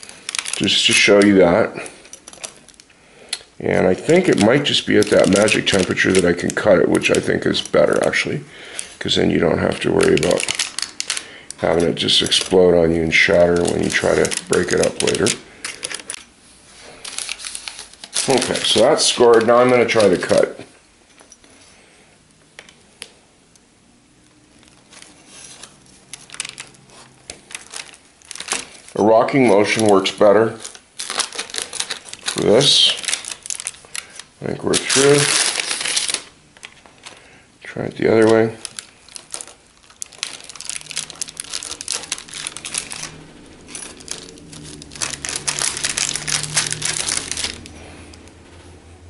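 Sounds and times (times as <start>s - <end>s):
parchment paper crinkling: 0.0s - 20.7s, 24.3s - 48.7s.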